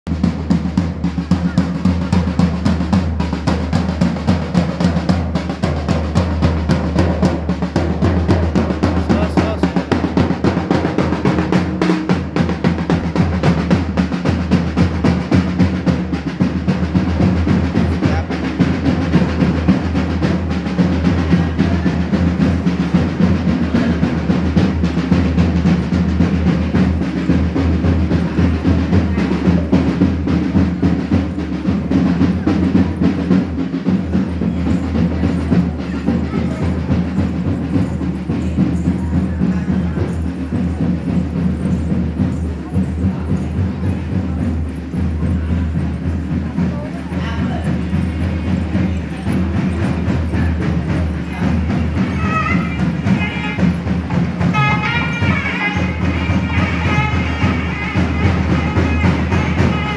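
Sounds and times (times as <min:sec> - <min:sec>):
fast barrel drum beating: 0:00.1 - 0:59.9.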